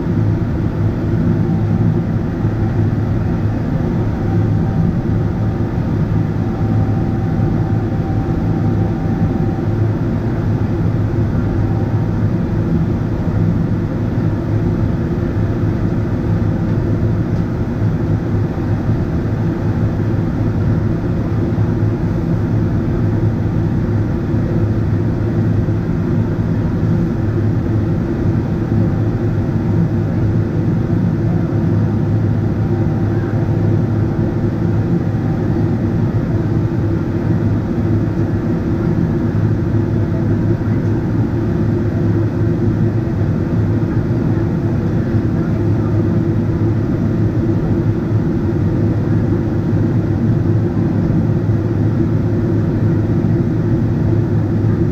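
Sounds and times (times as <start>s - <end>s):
airplane cabin engine roar: 0.0s - 54.9s.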